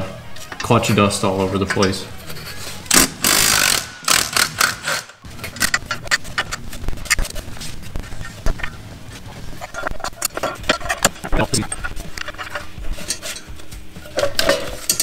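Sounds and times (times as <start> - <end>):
metal tools clinking and scraping: 0.4 - 2.9, 3.6 - 7.4, 8.0 - 15.0.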